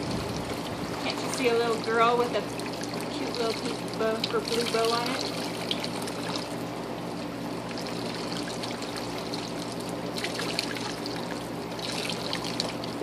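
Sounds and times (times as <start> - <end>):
water pouring and trickling into tub: 0.0 - 13.0
water splashes: 0.0 - 13.0.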